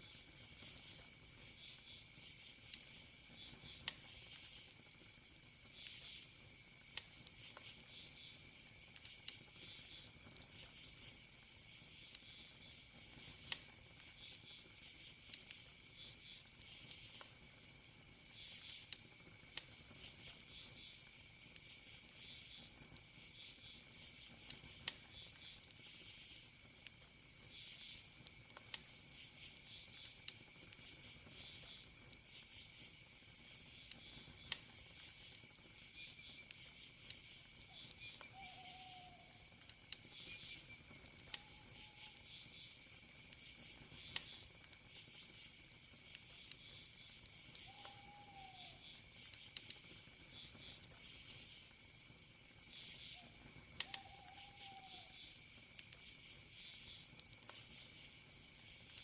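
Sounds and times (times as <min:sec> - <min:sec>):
crickets chirping: 0:00.0 - 0:59.0
wood fire crackling and popping: 0:00.0 - 0:59.0.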